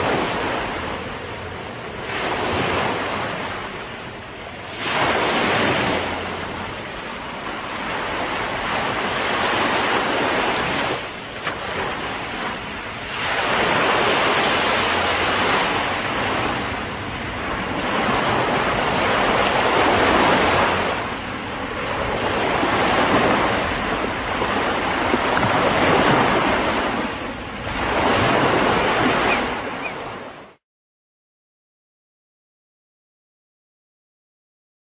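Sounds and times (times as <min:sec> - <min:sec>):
ocean waves breaking: 0:00.0 - 0:30.6.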